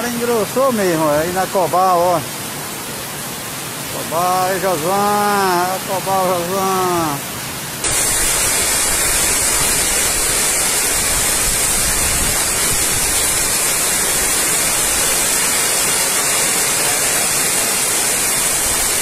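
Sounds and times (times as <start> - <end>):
heavy rain downpour: 0.0 - 19.0.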